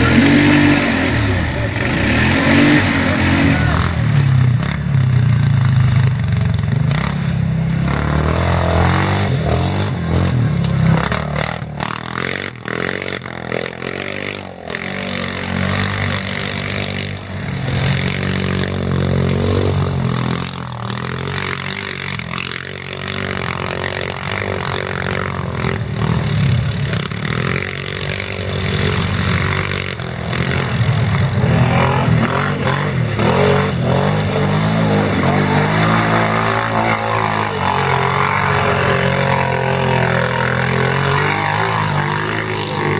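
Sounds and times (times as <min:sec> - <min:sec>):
quad bike engines revving: 0:00.0 - 0:42.9.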